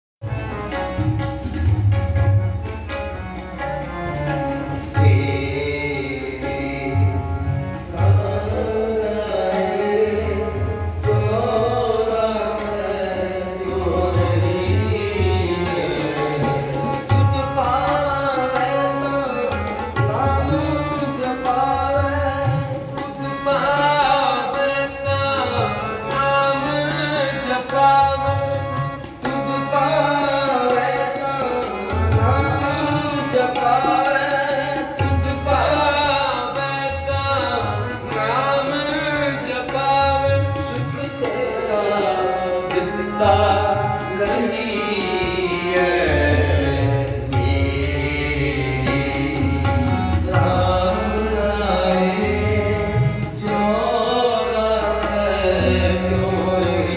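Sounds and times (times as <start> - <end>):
harmonium reed tones: 2.4 - 56.9.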